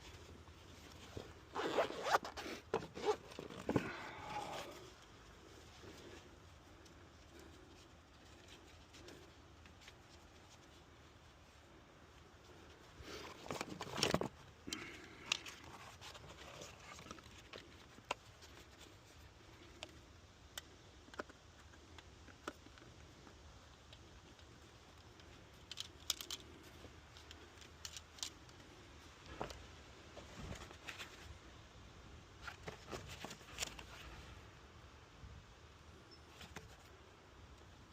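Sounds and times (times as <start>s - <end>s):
handling clicks and rustling: 0.0s - 34.4s, 35.6s - 37.9s.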